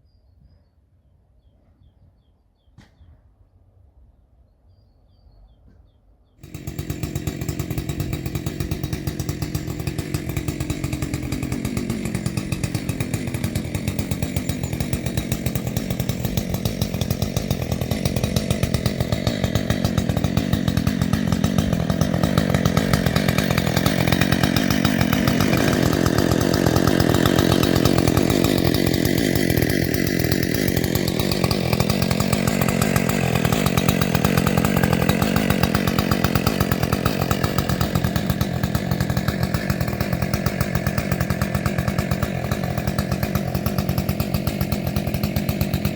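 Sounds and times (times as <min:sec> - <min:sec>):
chainsaw cutting at high revs: 0:06.4 - 0:45.9.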